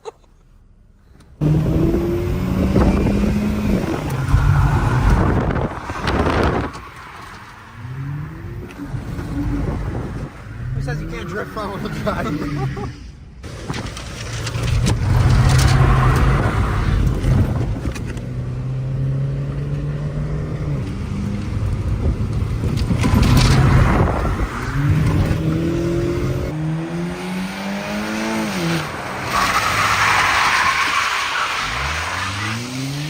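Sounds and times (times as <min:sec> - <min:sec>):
car engine revving: 0:01.4 - 0:33.0.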